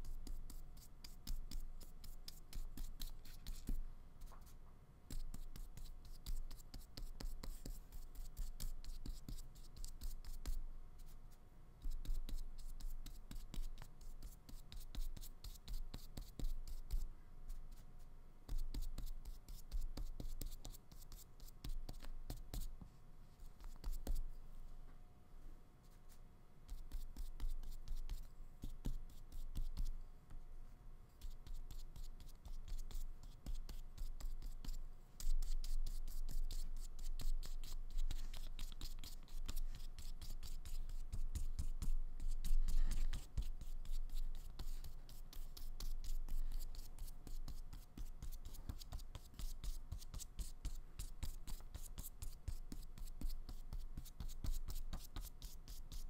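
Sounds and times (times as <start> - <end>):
scratchy paintbrush strokes on paper: 0.0 - 24.7, 25.8 - 30.0, 31.1 - 56.0.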